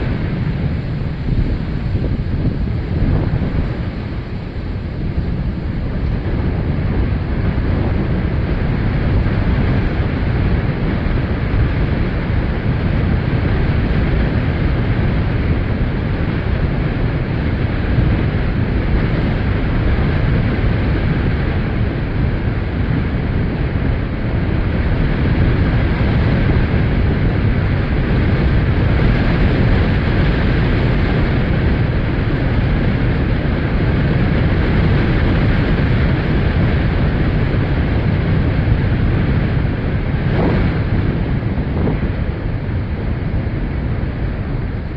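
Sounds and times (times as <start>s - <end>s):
storm wind buffeting microphone: 0.0s - 44.9s.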